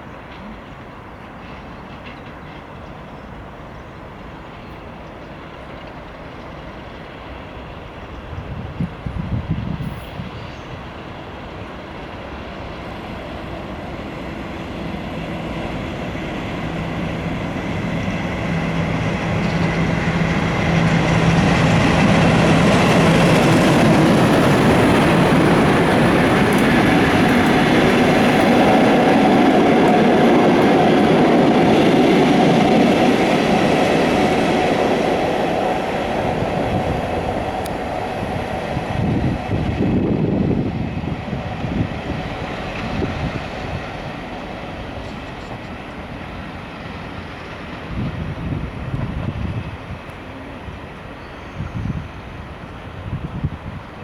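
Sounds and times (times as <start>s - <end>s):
train wheel noise: 0.0s - 54.0s.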